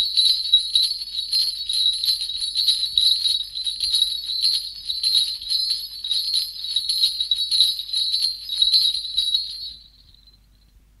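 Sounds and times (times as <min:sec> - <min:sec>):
sleigh bells jingling: 0:00.0 - 0:10.7.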